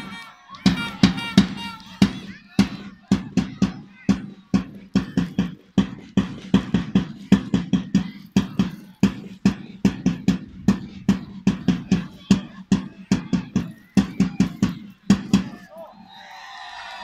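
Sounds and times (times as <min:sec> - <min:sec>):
drum beaten fast: 0:00.0 - 0:16.2.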